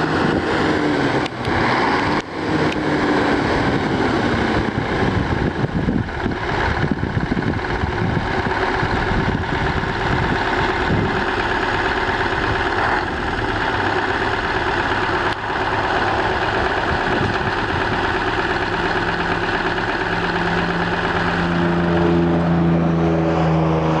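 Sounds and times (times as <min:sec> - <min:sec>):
dump truck engine running: 0:00.0 - 0:24.0
steady louder hum: 0:00.0 - 0:24.0.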